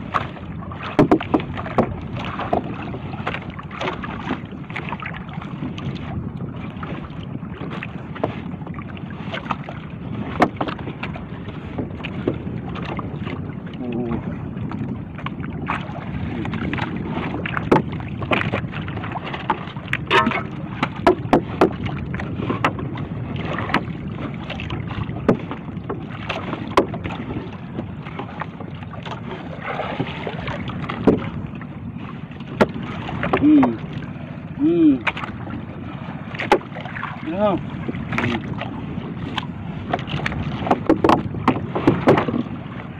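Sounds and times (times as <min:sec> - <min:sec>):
water and wind rumble: 0:00.0 - 0:42.9.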